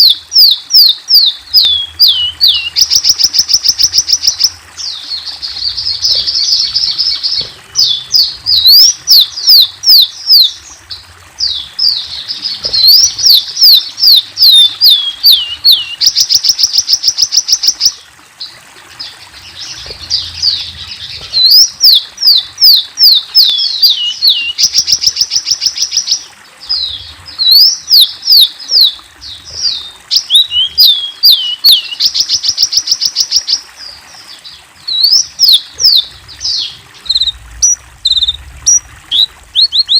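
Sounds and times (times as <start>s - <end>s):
sunbird singing: 0.0s - 18.0s, 19.0s - 33.6s, 34.2s - 39.9s.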